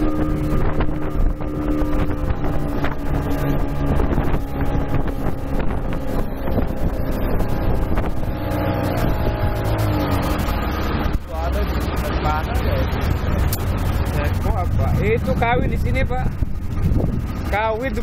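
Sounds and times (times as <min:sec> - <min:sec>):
outboard motors running: 0:00.0 - 0:18.0
water noise: 0:00.0 - 0:18.0
wind on microphone: 0:00.0 - 0:18.0.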